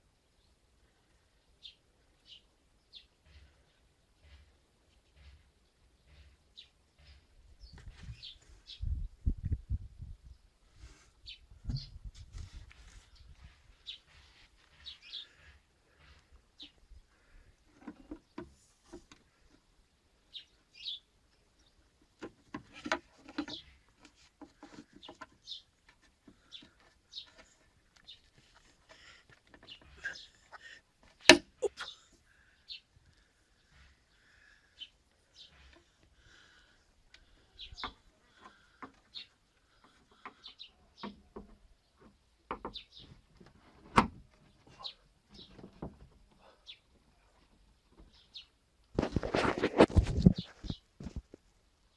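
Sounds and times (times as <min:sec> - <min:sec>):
small birds chirping: 0:00.2 - 0:43.6, 0:44.2 - 0:48.9, 0:49.8 - 0:51.9.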